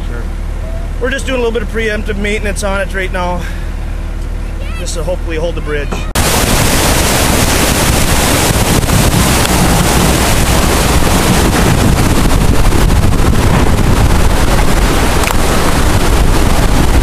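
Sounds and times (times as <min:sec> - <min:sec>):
river roaring over dam: 0:00.0 - 0:17.0.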